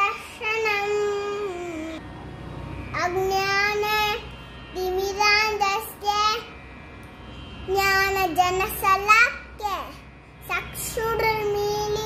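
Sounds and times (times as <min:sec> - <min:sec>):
boy chanting in sing-song voice: 0:00.0 - 0:02.0, 0:02.9 - 0:06.6, 0:07.6 - 0:12.0.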